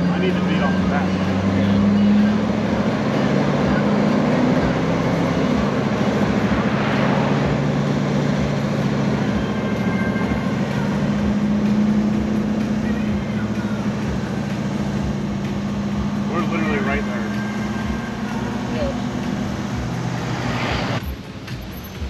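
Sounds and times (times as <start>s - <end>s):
car engine drone: 0.0s - 22.0s
road noise: 0.0s - 22.0s.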